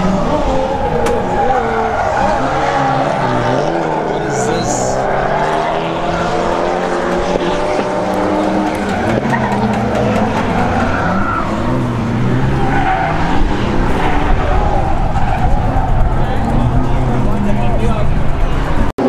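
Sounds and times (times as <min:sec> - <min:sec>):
tires squealing: 0:00.0 - 0:18.9
car engines revving: 0:00.0 - 0:19.0.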